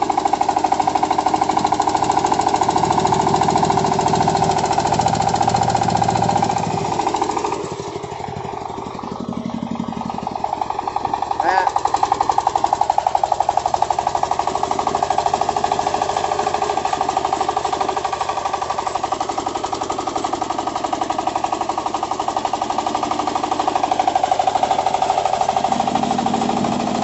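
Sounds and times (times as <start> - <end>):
diesel engine chugging: 0.0 - 27.0.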